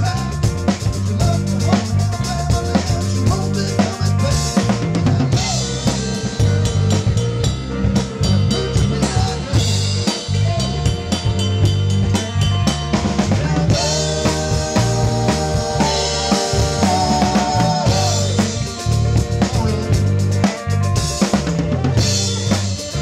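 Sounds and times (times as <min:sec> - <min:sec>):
drum kit groove: 0:00.0 - 0:23.0
live rock band playing: 0:00.0 - 0:23.0.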